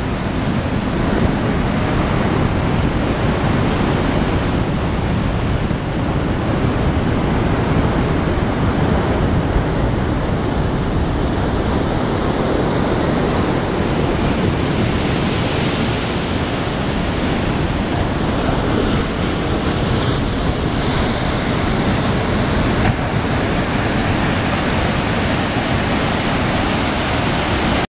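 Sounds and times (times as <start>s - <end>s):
heavy surf breaking: 0.0s - 27.9s
wind on microphone: 0.0s - 27.9s.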